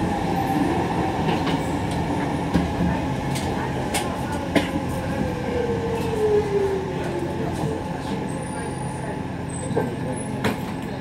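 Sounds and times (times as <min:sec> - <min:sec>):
train rumbling on the track: 0:00.0 - 0:11.0.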